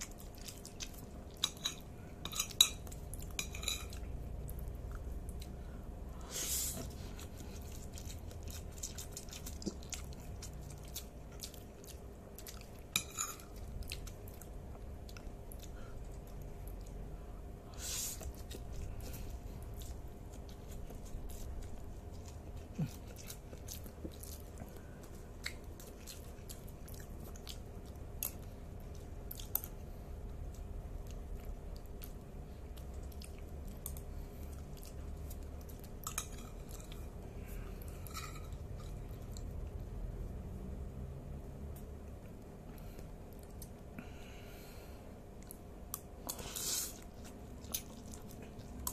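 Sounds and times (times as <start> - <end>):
person chewing noodles: 0.0 - 40.4, 41.7 - 48.9
low steady hum: 0.0 - 48.9.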